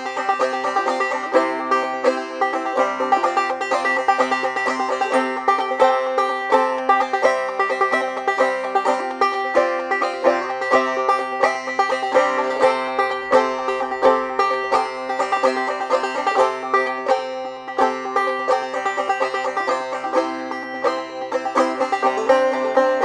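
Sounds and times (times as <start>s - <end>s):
banjo playing old-time tune: 0.0s - 23.0s.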